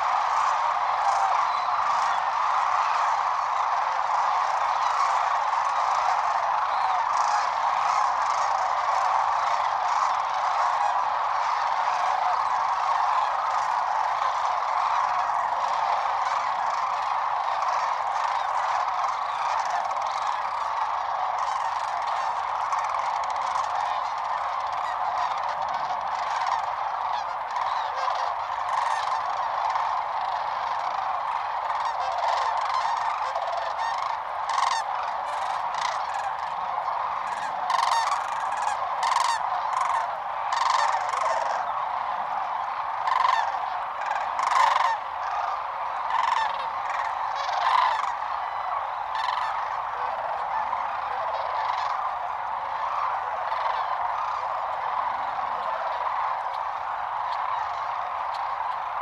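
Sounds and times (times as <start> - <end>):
flock of cranes calling: 0.0 - 59.0
loud nearby crane calls: 0.0 - 59.0.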